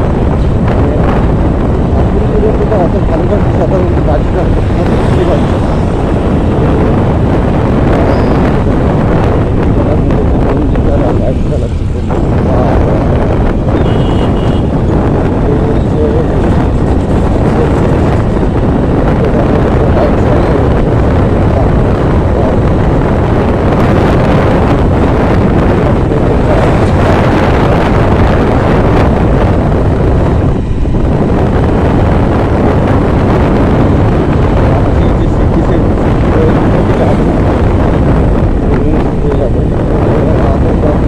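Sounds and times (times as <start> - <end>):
road noise: 0.0 - 41.0
wind on microphone: 0.0 - 41.0.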